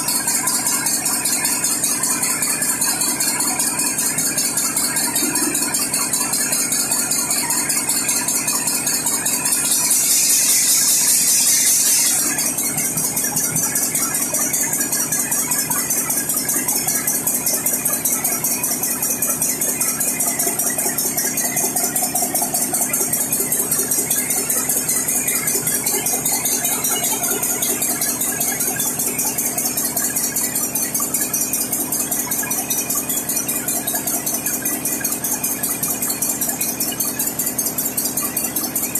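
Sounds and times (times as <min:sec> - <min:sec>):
large diesel engine running: 0:00.0 - 0:38.9.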